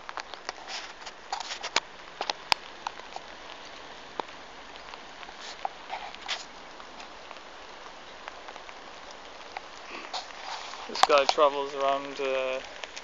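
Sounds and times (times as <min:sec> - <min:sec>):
light rain hissing: 0:00.0 - 0:13.0
raindrops ticking: 0:00.0 - 0:13.0.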